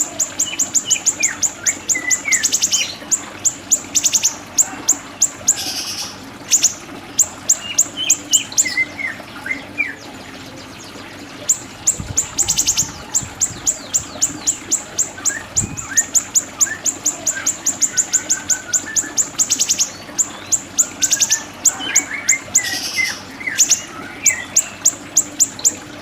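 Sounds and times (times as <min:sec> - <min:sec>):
songbird chirping and singing: 0:00.0 - 0:06.1, 0:07.2 - 0:25.8.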